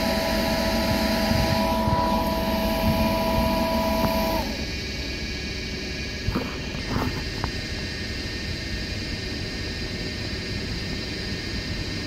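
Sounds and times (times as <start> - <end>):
steady rumble: 0.0 - 12.0.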